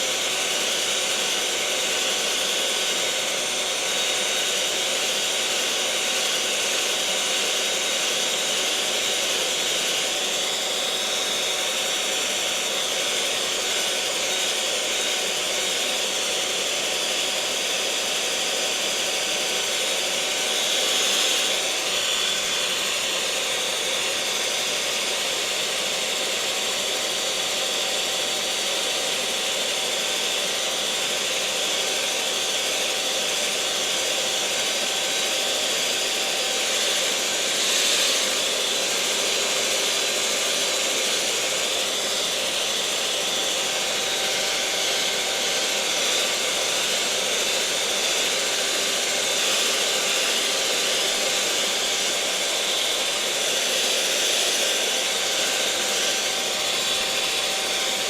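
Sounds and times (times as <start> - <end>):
electric mixer whirring: 0.0 - 58.0.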